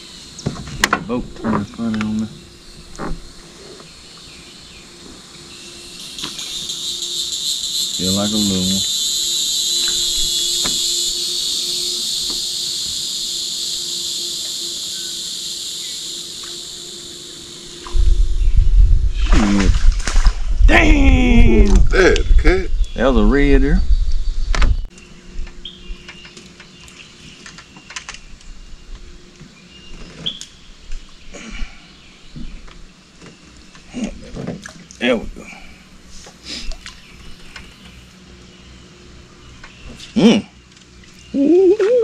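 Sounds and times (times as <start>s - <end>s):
faint steady hum: 0.0s - 42.0s
high-pitched insect chorus: 0.0s - 42.0s.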